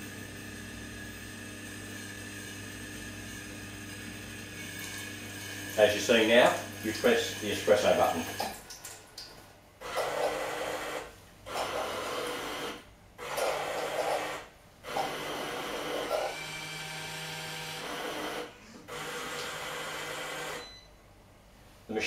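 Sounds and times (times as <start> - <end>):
coffee machine motors running: 0.0 - 8.5, 9.8 - 20.7.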